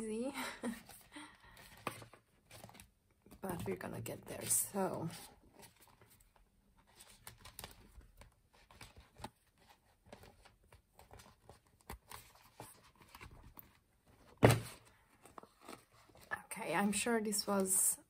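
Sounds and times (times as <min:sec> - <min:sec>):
plastic cover crinkling and scraping: 0:00.6 - 0:16.6.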